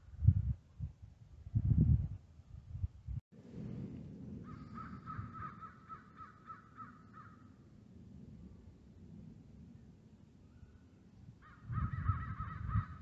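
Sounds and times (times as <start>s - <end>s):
low steady background rumble: 0.0s - 13.0s.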